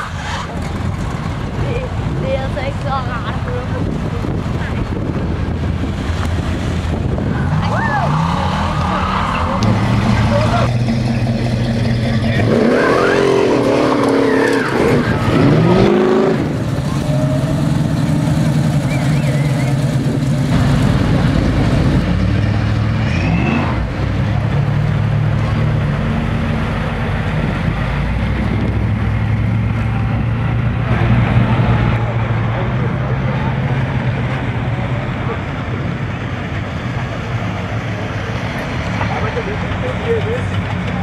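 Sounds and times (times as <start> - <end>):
cars rumbling slowly past: 0.0 - 41.0
car engine revving: 4.0 - 41.0.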